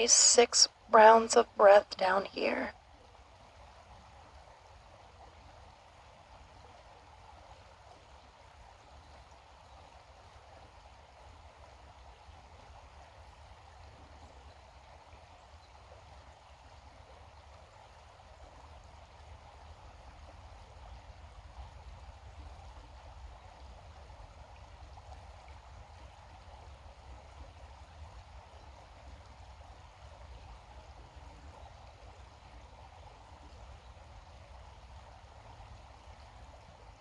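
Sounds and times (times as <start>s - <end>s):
faint rushing water: 0.0s - 37.0s.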